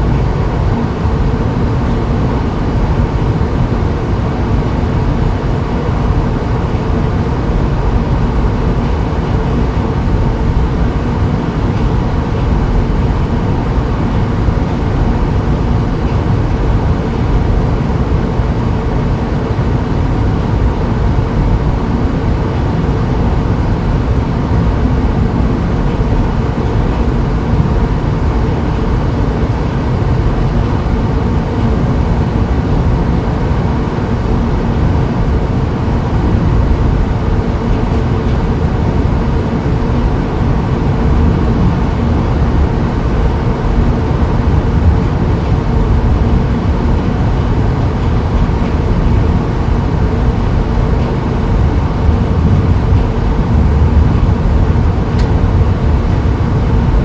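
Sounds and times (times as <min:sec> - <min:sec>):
faint hum: 0:00.0 - 0:57.0
low rumbling noise: 0:00.0 - 0:57.0.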